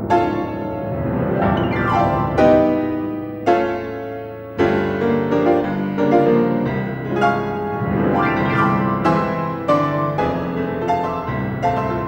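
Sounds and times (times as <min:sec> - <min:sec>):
solo piano classical music: 0:00.0 - 0:12.0.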